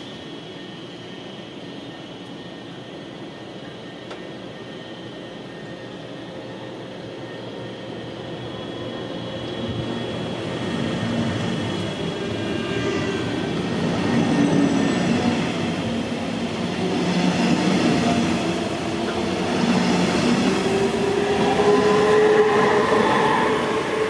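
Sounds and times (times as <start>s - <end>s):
faint high whine: 0.0s - 24.0s
train running noise: 0.0s - 24.0s.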